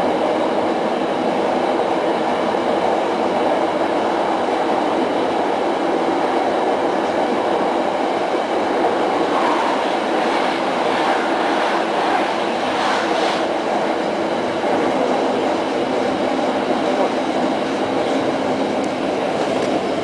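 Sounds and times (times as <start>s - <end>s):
passing train rush: 0.0s - 20.0s
train wheels rolling on rails: 0.0s - 20.0s.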